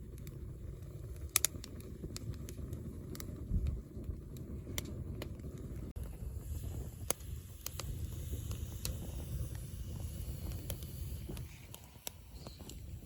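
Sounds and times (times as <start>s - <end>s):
sharp clicks and crackles: 0.0s - 13.0s.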